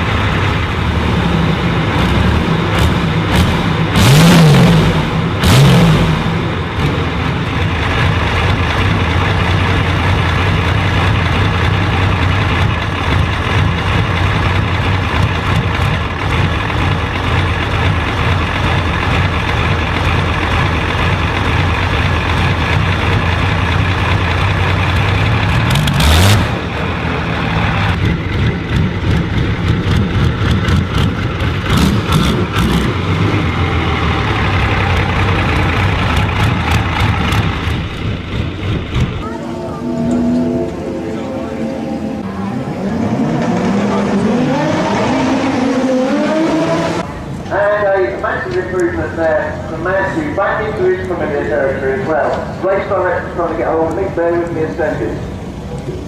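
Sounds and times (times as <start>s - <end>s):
powerful engine revving: 0.0s - 47.5s.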